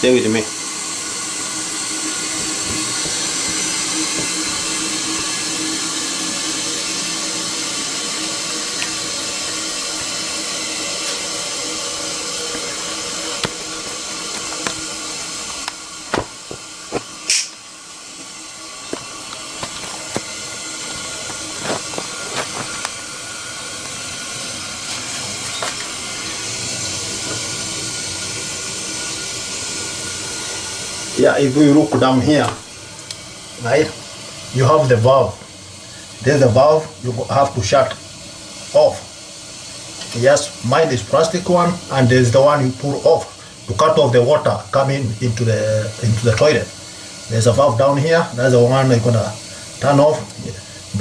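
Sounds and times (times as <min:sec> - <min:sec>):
toilet fill valve hissing: 0:00.0 - 0:51.0.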